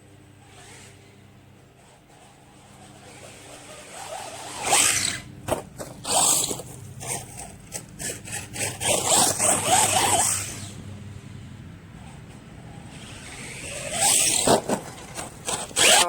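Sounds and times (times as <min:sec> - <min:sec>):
electric motor whining: 0:00.0 - 0:16.0
tyres scrabbling in dirt: 0:00.4 - 0:16.0.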